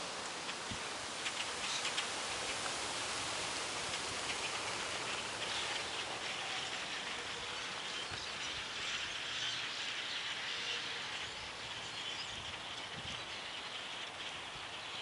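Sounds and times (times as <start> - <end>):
flock of small birds calling: 0.0 - 15.0.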